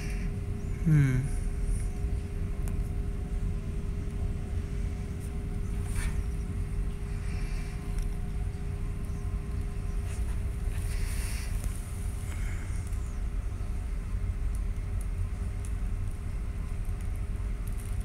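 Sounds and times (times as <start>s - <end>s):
machinery rumble with hum: 0.0s - 18.0s.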